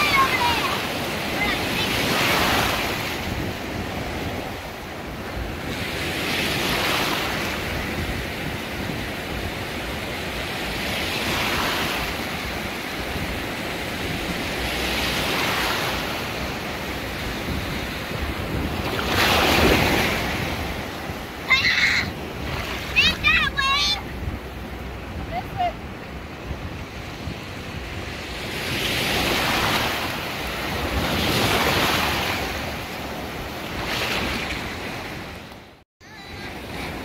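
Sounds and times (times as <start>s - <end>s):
wind rumbling on microphone: 0.0s - 35.6s
ocean surf breaking: 0.0s - 37.0s.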